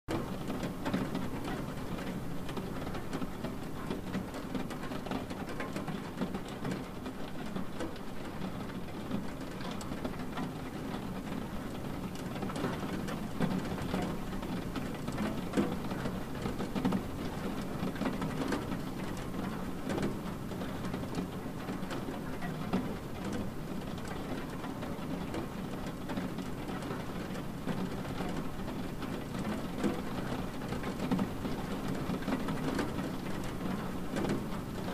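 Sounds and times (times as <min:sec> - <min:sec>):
rain on window glass: 0:00.1 - 0:34.9.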